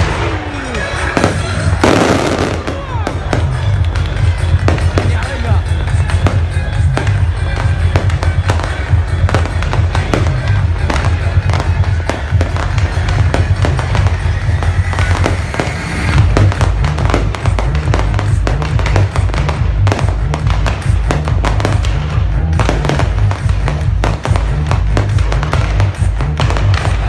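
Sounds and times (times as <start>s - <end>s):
fireworks bangs and crackles: 0.0s - 27.0s
music with heavy bass: 0.0s - 27.0s.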